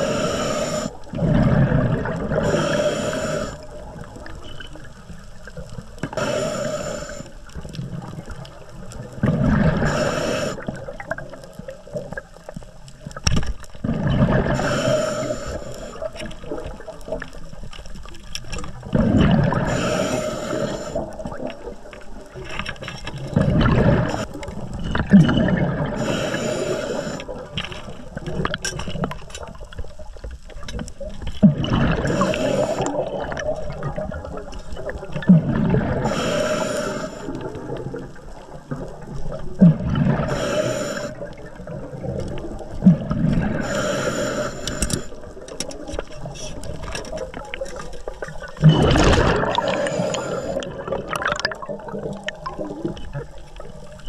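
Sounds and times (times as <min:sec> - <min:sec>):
diver breathing with bubbles: 0:00.0 - 0:12.6, 0:13.8 - 0:17.7, 0:18.3 - 0:30.0, 0:30.7 - 0:54.0
underwater water noise: 0:00.0 - 0:54.0.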